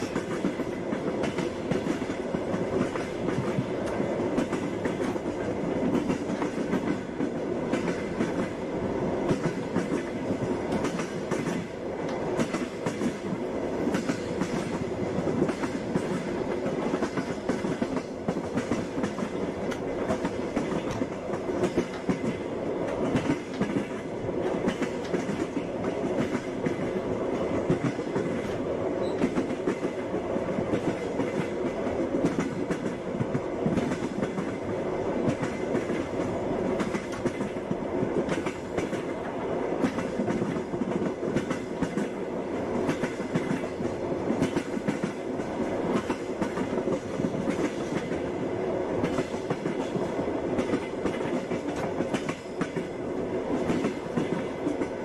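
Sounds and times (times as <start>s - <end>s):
train carriage rumbling: 0.0s - 55.0s.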